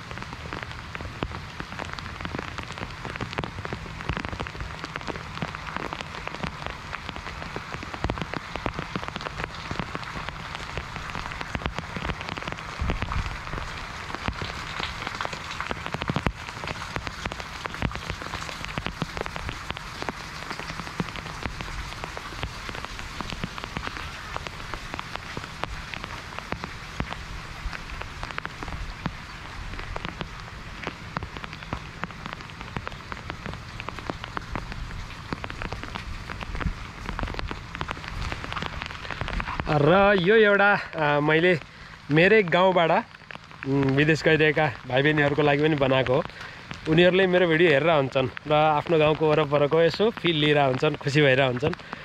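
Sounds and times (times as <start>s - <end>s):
raindrops ticking on surfaces: 0.0s - 52.0s
steady rain falling: 0.0s - 52.0s.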